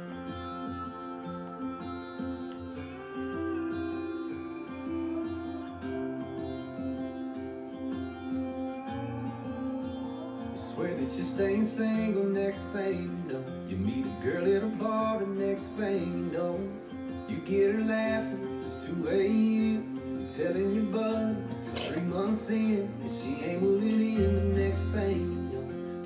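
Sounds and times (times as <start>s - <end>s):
acoustic guitar: 0.0s - 26.0s
person singing: 0.0s - 26.0s.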